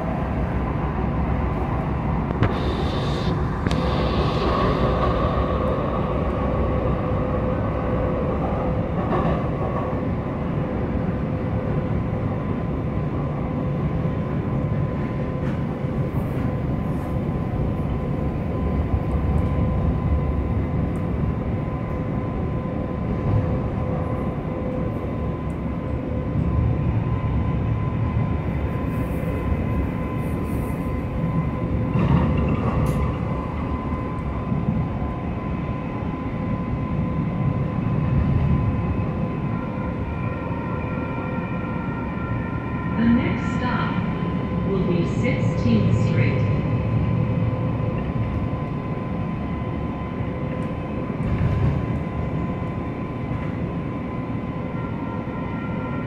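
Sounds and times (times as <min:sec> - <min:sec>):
constant whine: 0:00.0 - 0:56.0
train wheels rumbling on rail: 0:00.0 - 0:56.0.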